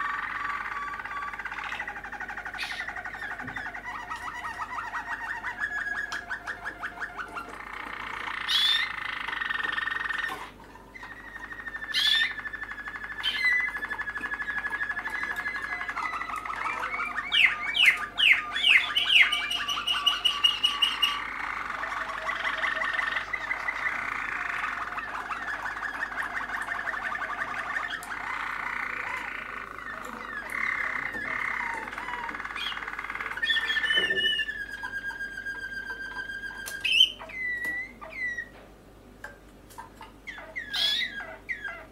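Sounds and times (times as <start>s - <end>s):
canaries singing trills: 0.0s - 41.9s.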